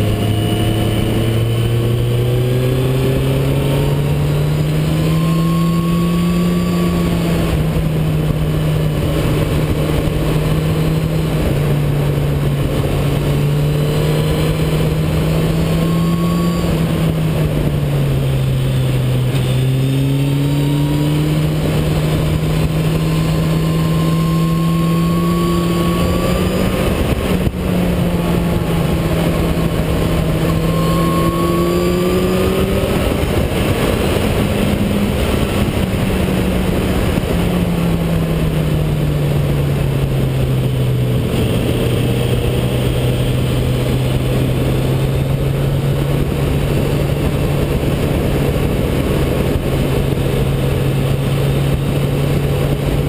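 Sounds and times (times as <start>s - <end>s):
motorcycle engine revving: 0.0s - 53.0s
wind noise: 0.0s - 53.0s.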